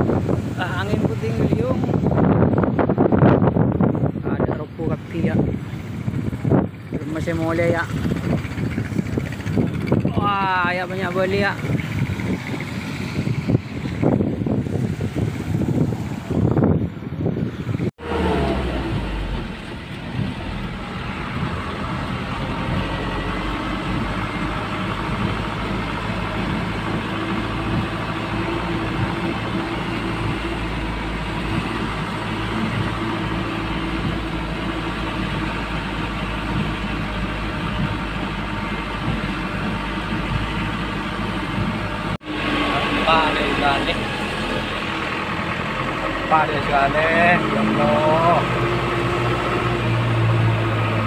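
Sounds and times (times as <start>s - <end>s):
road noise: 0.0s - 51.0s
vehicle engine running: 0.0s - 51.0s
wind buffeting microphone: 0.0s - 51.0s.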